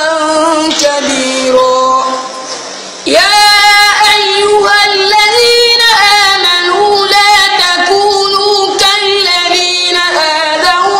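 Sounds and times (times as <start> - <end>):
boy reciting melodically: 0.0 - 10.9.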